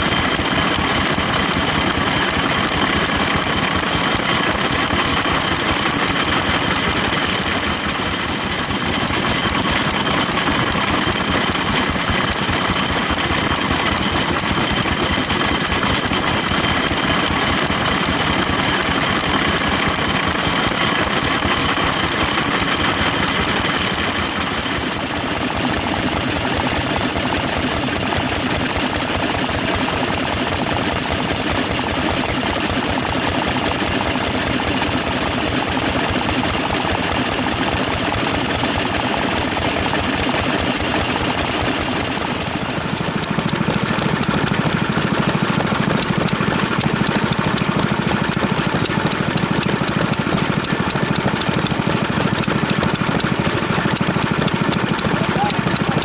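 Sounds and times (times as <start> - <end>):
old stationary engines running: 0.0 - 56.0.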